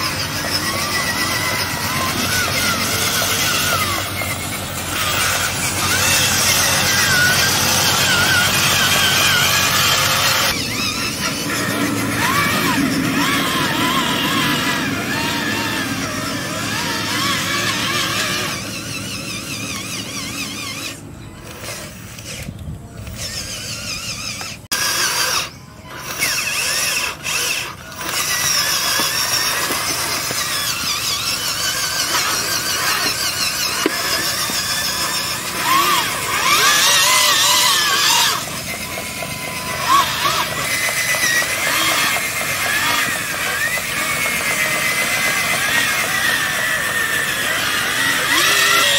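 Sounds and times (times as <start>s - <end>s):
small electric motors whining: 0.0s - 48.9s.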